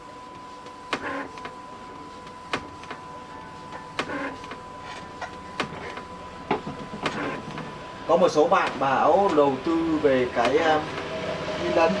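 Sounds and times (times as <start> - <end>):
inkjet printer printing: 0.0 - 12.0.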